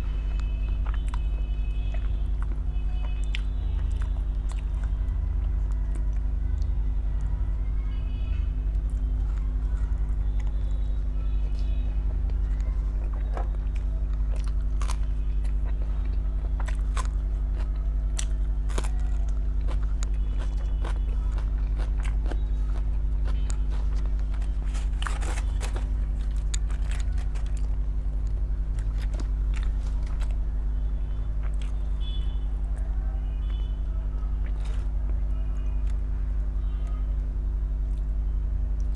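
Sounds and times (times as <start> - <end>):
low steady hum: 0.0 - 38.9
person chewing crunchy food: 0.1 - 6.2, 8.7 - 36.0.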